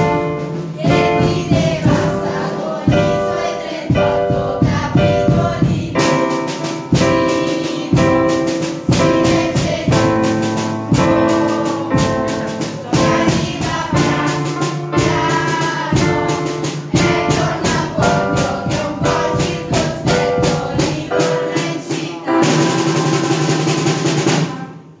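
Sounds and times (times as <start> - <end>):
children singing: 0.0 - 24.8
music with steady beat: 0.0 - 25.0.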